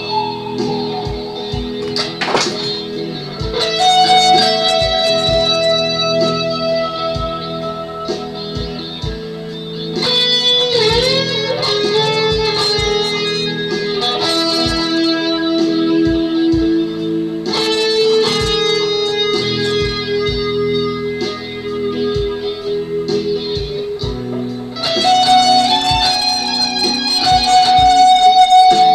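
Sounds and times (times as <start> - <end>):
electric guitar lead: 0.0 - 28.9.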